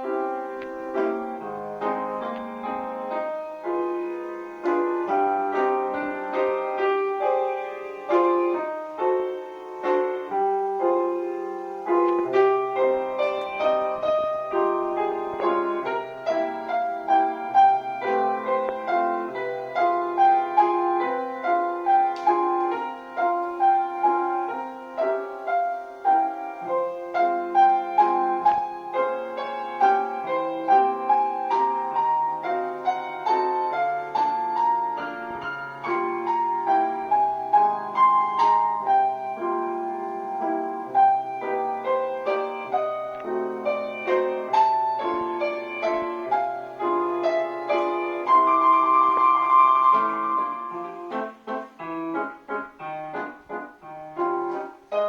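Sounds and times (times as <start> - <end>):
solo piano music: 0.0 - 55.0.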